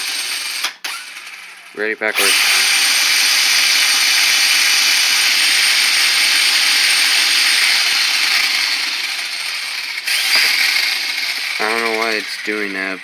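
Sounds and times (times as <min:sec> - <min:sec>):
toy truck electric motor whirring: 0:00.0 - 0:13.0.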